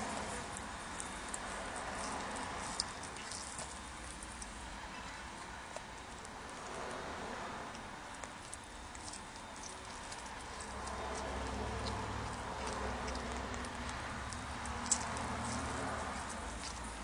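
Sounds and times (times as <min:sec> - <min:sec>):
cat chewing wetly: 0:00.0 - 0:17.0.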